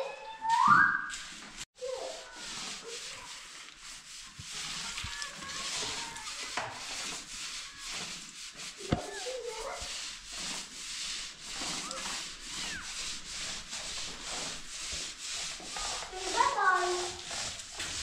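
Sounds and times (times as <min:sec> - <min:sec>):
paintbrush scrubbing on wall: 0:00.1 - 0:18.0.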